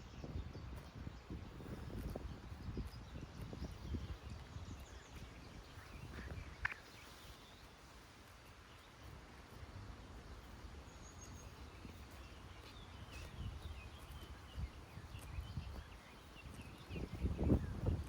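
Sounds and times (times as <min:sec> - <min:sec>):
small birds chirping faintly: 0:00.0 - 0:18.0.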